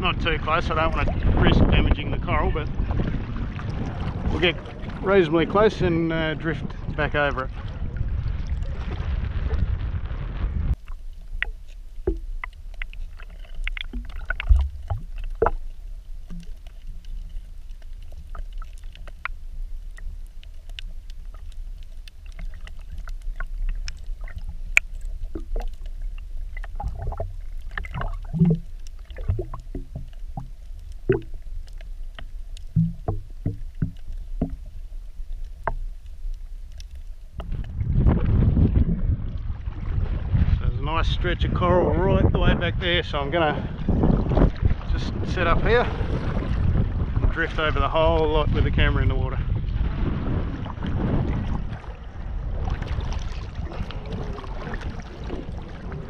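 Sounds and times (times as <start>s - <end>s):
sharp underwater clicks and crackles: 0.0s - 56.0s
underwater rumble of moving water: 0.0s - 56.0s.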